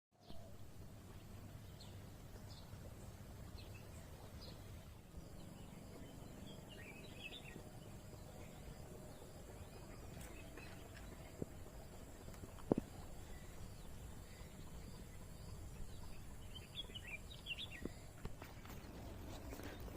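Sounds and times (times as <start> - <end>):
faint birds chirping: 0.2 - 19.9
low steady background rumble: 0.2 - 19.9.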